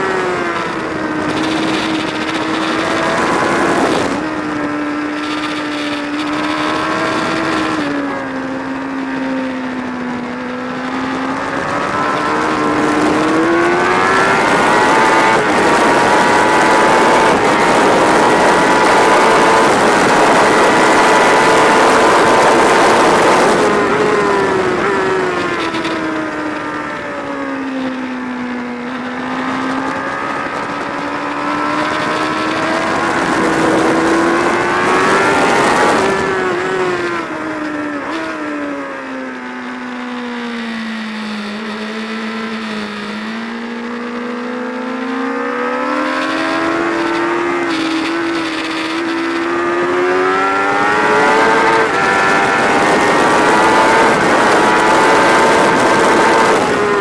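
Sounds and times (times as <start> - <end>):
wind rush: 0.0 - 8.8, 9.6 - 27.6, 28.2 - 39.0, 45.5 - 57.0
motorcycle engine accelerating: 0.0 - 57.0.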